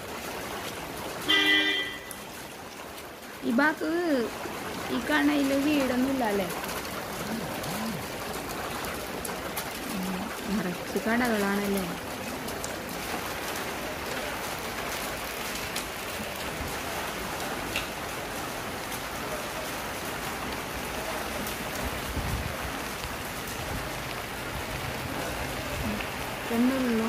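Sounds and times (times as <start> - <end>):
rain on flooded street: 0.0 - 27.0.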